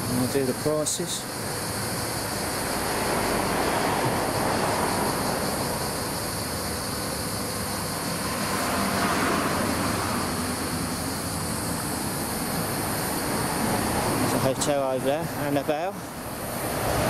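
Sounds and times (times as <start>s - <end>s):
rumble of street traffic: 0.0s - 17.0s.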